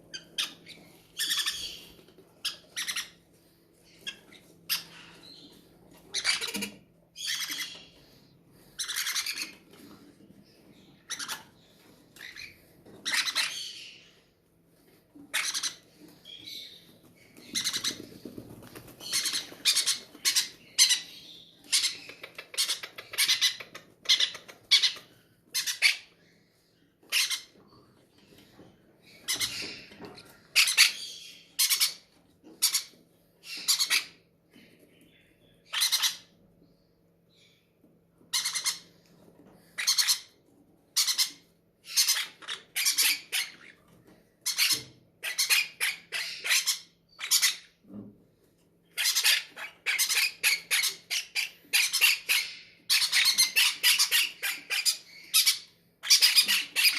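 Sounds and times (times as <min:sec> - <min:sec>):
parrot chicks squawking: 0:00.0 - 0:34.3, 0:35.5 - 0:36.4, 0:37.4 - 0:47.9, 0:48.9 - 0:56.9.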